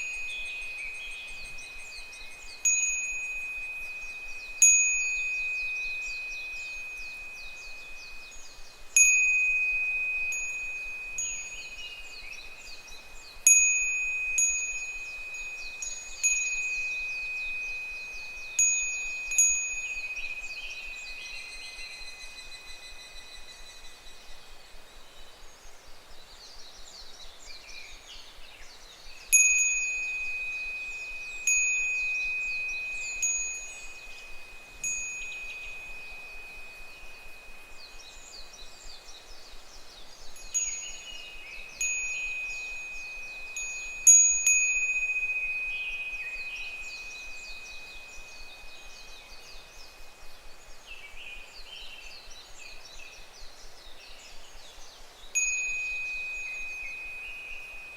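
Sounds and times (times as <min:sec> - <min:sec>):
wind bell ringing: 0:00.0 - 0:23.8, 0:29.3 - 0:39.2, 0:39.9 - 0:53.2, 0:54.3 - 0:57.9
cicadas calling: 0:00.0 - 0:57.9.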